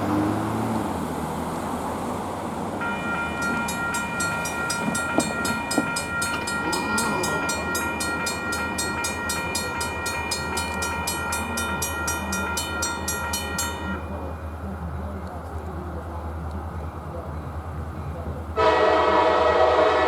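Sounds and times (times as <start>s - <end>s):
low train rumble: 0.0s - 20.0s
railroad warning bell ringing: 2.8s - 20.0s.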